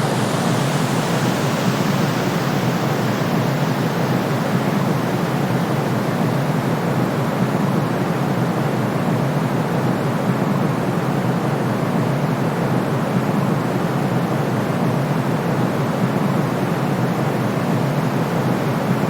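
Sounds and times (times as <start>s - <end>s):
steady white noise hiss: 0.0s - 19.0s.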